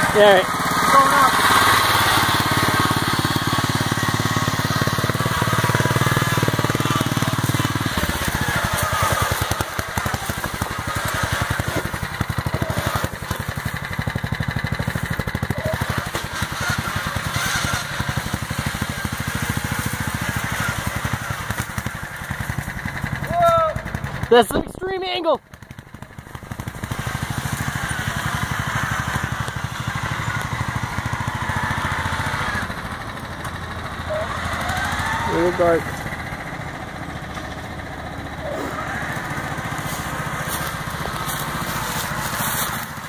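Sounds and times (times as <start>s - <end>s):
small lawn mower engine running: 0.0s - 43.0s.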